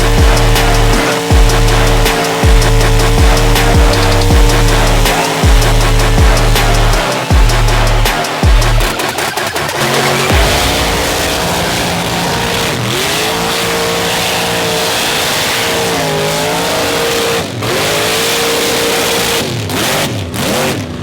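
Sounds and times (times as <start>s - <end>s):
truck engine revving high: 0.0s - 21.0s.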